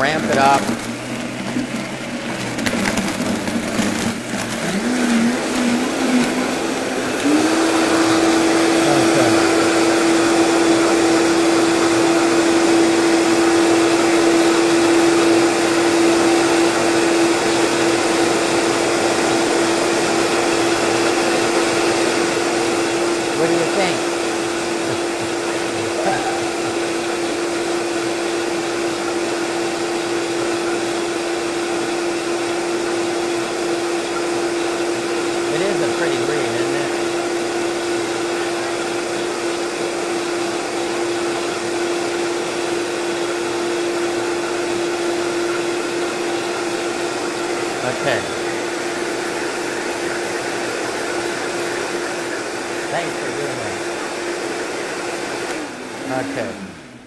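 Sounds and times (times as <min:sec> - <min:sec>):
blender motor whining: 0:00.0 - 0:57.0.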